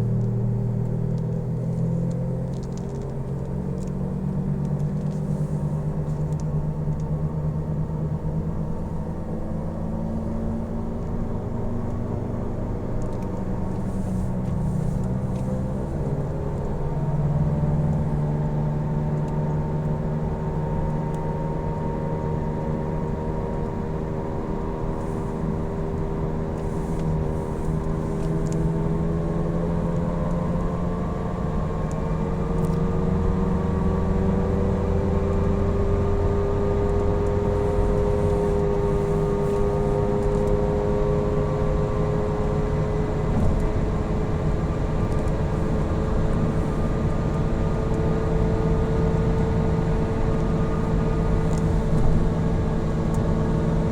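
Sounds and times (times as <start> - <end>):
tyre road noise rumble: 0.0 - 53.9.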